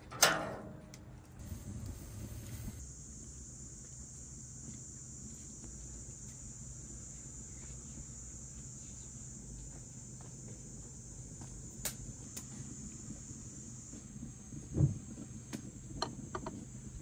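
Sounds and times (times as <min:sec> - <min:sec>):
insects chirring: 0:01.4 - 0:17.0.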